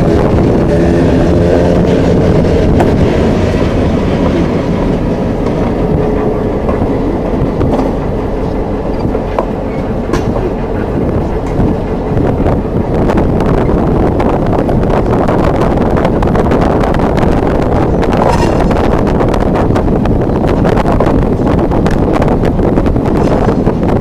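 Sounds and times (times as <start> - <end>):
railroad cars rolling: 0.0 - 24.0
wheels clicking over rail joints: 1.6 - 24.0.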